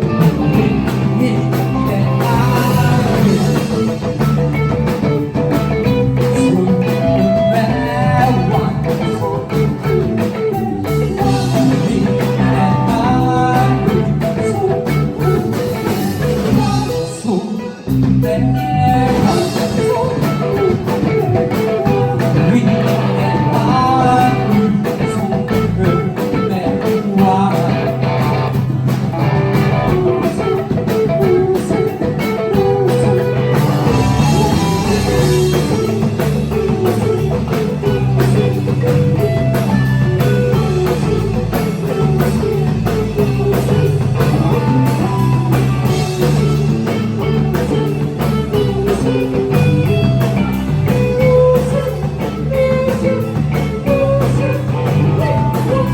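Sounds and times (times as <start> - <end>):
electric guitar: 0.0 - 55.9
person singing: 0.0 - 55.9
rock band playing live: 0.0 - 55.9.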